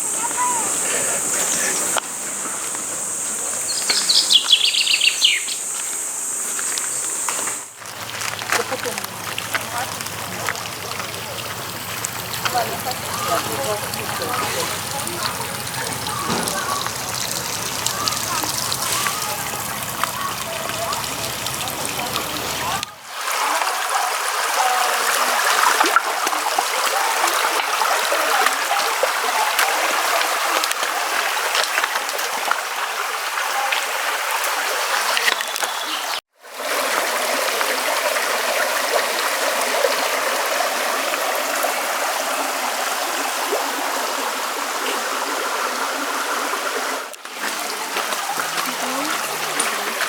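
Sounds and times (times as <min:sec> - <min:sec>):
river flowing: 0:00.0 - 0:50.0.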